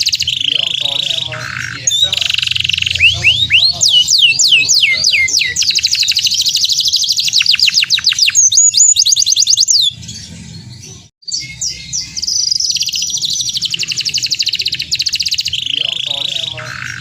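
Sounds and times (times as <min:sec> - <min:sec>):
canary singing in trills: 0:00.0 - 0:17.0.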